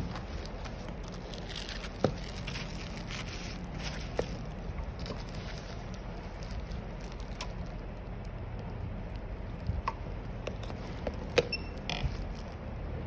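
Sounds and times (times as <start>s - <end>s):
bubble wrap crinkling: 0.0s - 12.6s
steady low hum: 0.0s - 13.0s.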